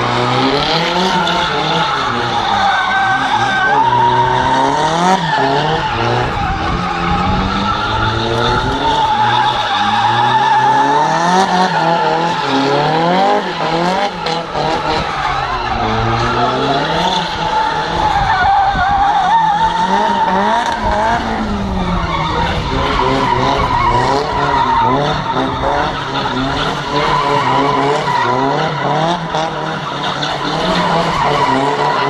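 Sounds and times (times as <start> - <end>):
car engine revving high: 0.0 - 32.0
tyres squealing and skidding: 0.0 - 32.0.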